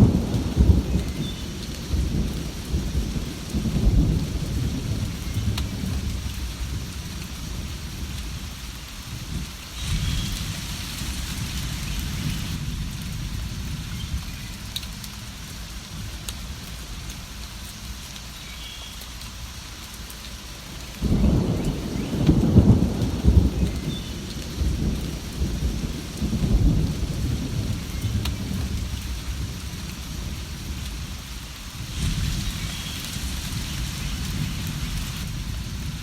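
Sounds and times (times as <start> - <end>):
thunder rumbling: 0.0 - 17.3, 21.0 - 36.0
steady rain: 0.0 - 36.0.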